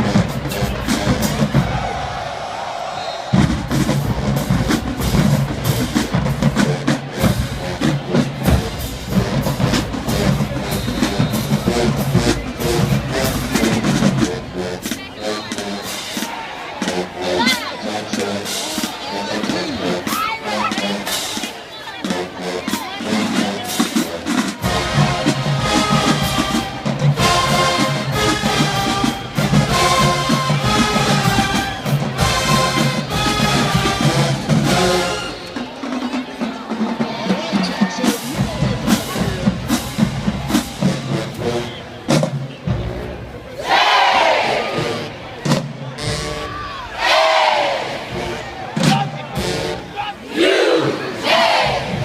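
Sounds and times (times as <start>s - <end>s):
drumline percussion: 0.0s - 52.0s
horn notes: 0.0s - 52.0s
marching band playing: 0.0s - 52.0s.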